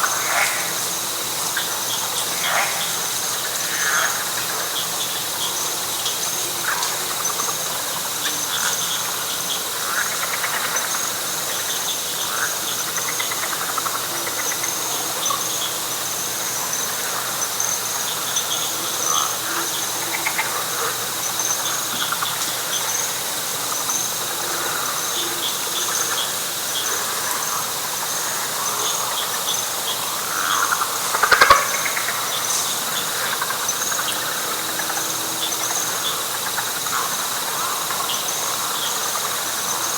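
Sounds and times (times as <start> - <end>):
frogs calling: 0.0 - 39.9
insects trilling: 0.0 - 39.9.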